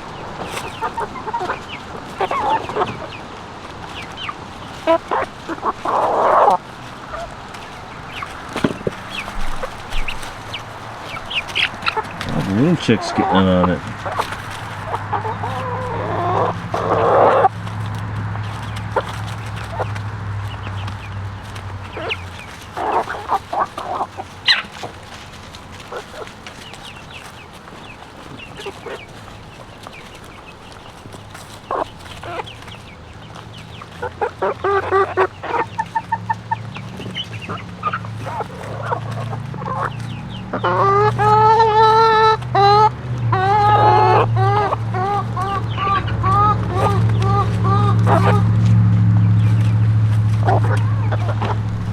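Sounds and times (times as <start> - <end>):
hen squawking: 0.0 - 17.5, 18.6 - 25.0, 33.6 - 48.8, 49.4 - 51.9
hens clucking: 0.0 - 51.9.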